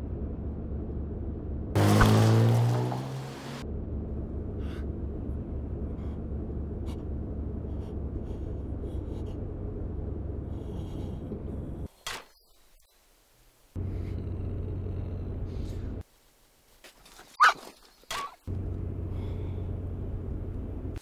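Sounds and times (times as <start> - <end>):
car engine rumble: 0.0 - 12.0, 13.7 - 16.1, 18.5 - 21.0
road noise: 0.0 - 12.0, 13.3 - 17.3, 18.4 - 21.0.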